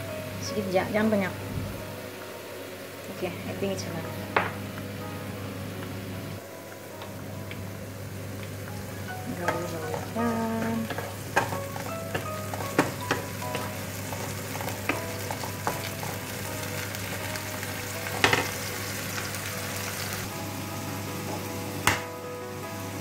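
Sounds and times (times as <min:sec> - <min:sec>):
mushrooms sizzling in hot oil: 0:00.0 - 0:23.0.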